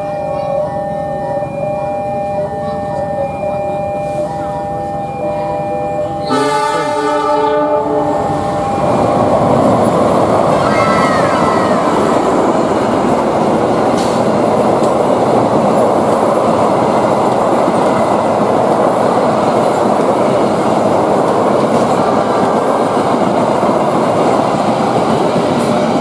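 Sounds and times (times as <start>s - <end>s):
train passing at speed: 2.6s - 26.0s.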